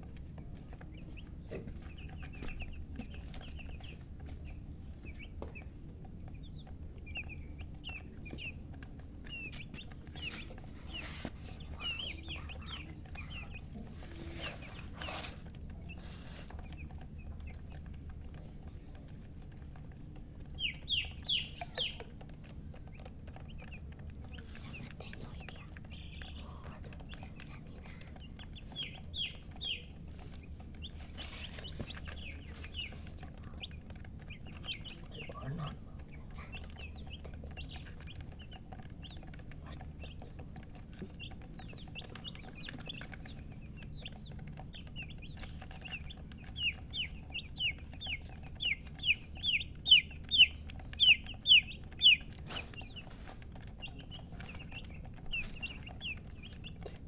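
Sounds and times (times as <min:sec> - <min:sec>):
baby chicks peeping: 0:00.0 - 0:57.0
steady low hum: 0:00.0 - 0:57.0.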